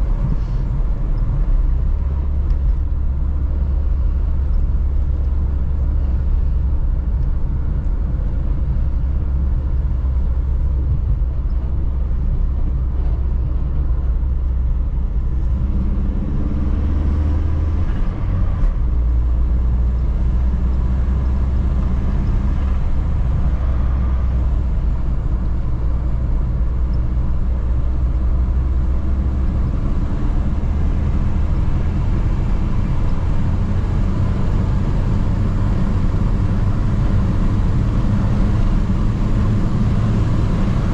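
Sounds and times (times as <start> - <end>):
car engine droning: 0.0 - 40.9
road rumble: 0.0 - 40.9.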